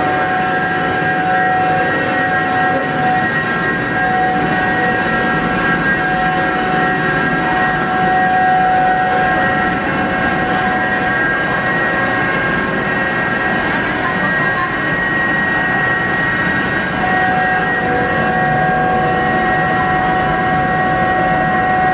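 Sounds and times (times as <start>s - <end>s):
high even machine whine: 0.0s - 21.9s
pulveriser machine roaring: 0.0s - 21.9s.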